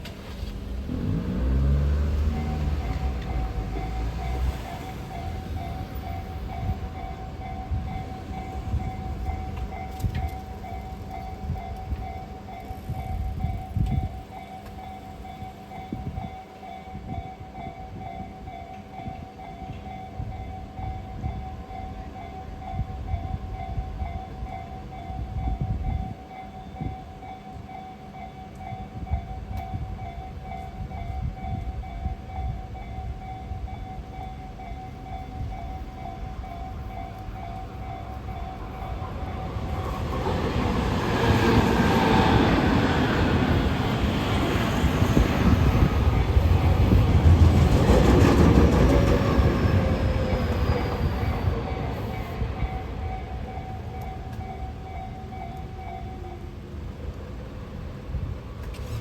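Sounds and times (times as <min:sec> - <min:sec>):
electric train rumble: 0:00.0 - 0:59.0
level crossing warning bell: 0:01.0 - 0:58.4.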